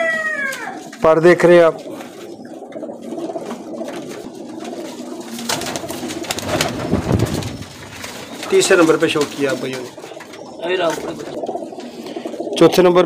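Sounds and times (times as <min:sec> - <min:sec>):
pigeons cooing: 0:00.0 - 0:13.0
pigeon wings flapping: 0:01.8 - 0:12.7.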